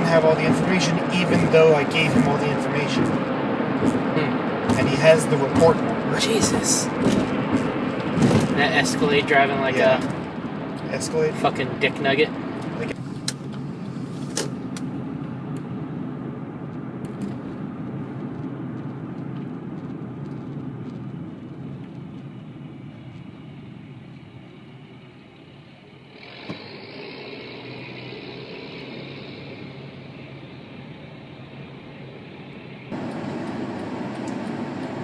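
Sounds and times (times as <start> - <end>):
road and engine rumble in car: 0.0 - 35.0.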